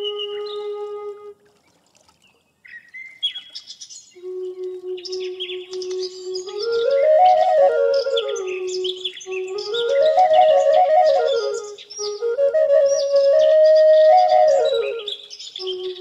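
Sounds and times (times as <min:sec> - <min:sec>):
flute holding long notes: 0:00.0 - 0:01.6, 0:04.2 - 0:16.0
songbirds chirping: 0:00.0 - 0:16.0.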